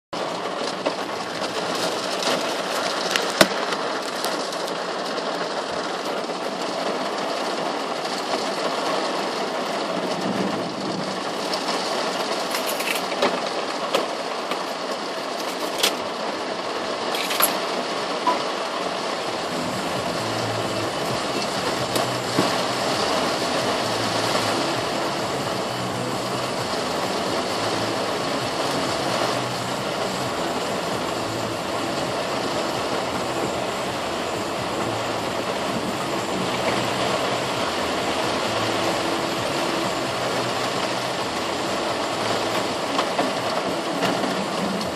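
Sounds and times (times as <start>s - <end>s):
heavy rain drumming on car roof: 0.2s - 44.9s.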